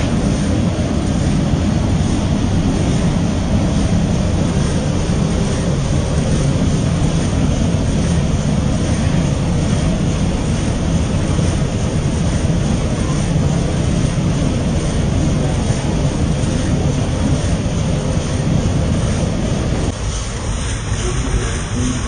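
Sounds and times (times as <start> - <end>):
rice milling machine running: 0.0 - 22.0.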